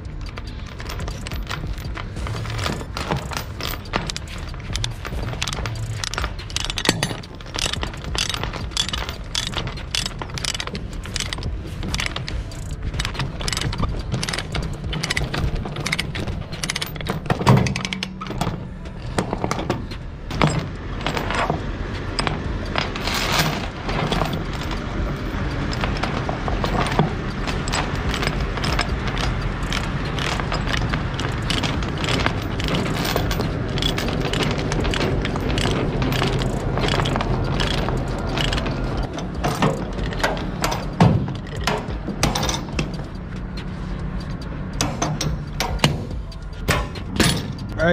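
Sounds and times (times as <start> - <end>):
chain clinking on steel: 0.0 - 47.9
low steady hum: 0.0 - 47.9
ratchet clicking: 0.0 - 47.9.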